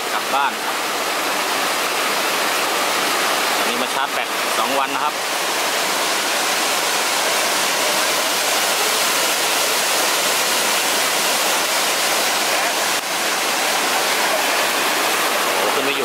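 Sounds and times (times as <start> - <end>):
waterfall cascading: 0.0 - 16.0.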